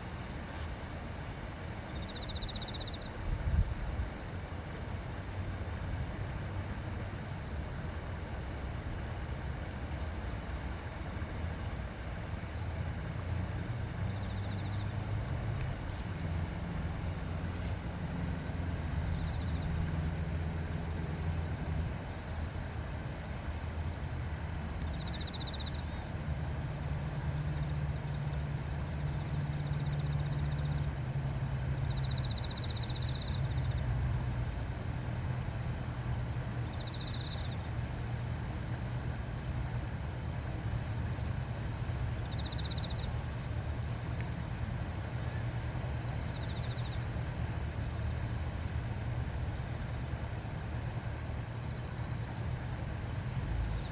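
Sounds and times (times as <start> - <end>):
river murmuring: 0.0 - 53.9.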